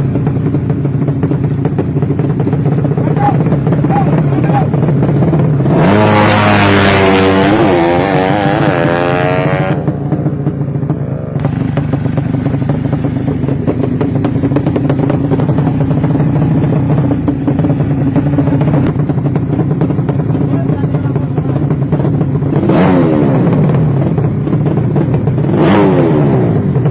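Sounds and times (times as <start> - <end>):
motorcycle engine idling: 0.0 - 7.4, 8.2 - 25.5, 26.4 - 26.9
motorcycle engine revving hard: 0.0 - 26.9.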